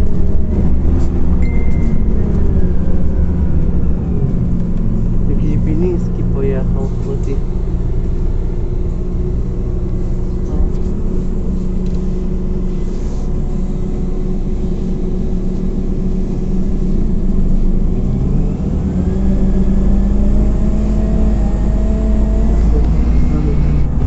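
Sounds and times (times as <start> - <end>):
bus engine accelerating: 0.0 - 24.0.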